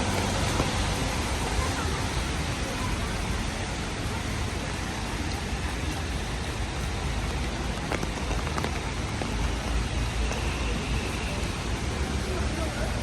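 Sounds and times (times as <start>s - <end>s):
rain on pavement: 0.0s - 13.0s.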